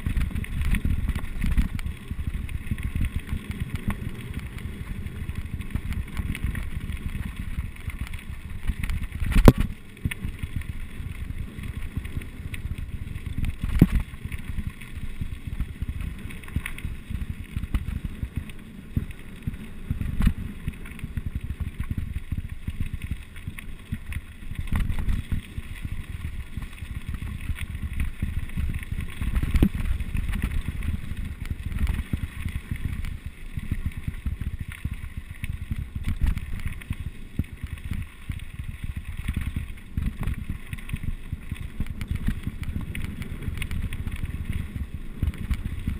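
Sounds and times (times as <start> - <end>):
mountain bike rattling: 0.0 - 45.9
wind buffeting microphone: 0.0 - 45.9.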